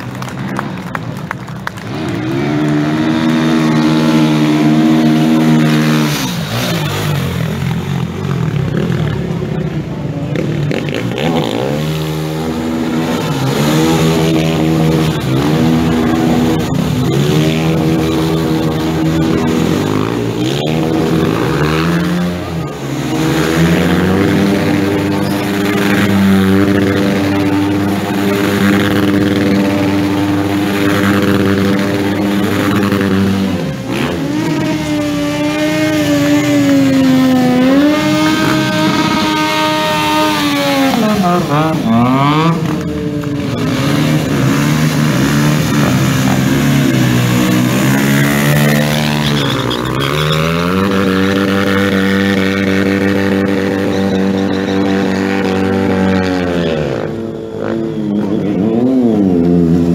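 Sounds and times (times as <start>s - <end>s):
motorcycle burnout at high revs: 0.0s - 59.9s
motorcycle engine revving: 0.0s - 59.9s.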